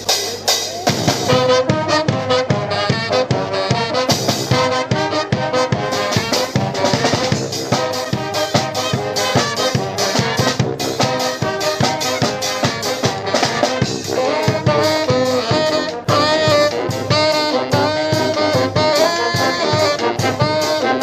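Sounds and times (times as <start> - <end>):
brass band playing: 0.0 - 21.0
steady drum beat: 0.0 - 21.0.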